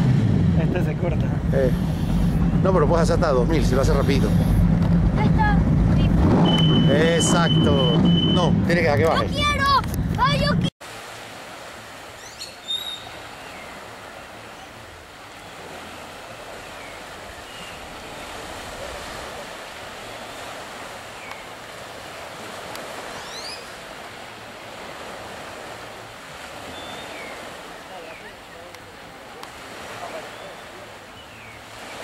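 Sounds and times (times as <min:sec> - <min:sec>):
small waves washing ashore: 0:00.0 - 0:32.0
wind: 0:00.0 - 0:32.0.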